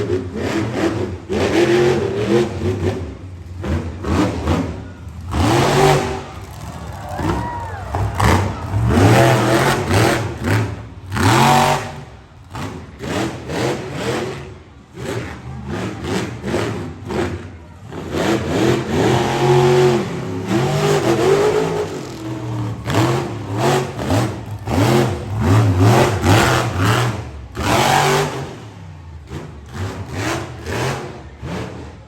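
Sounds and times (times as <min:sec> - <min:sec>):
truck engine revving hard: 0:00.0 - 0:32.0.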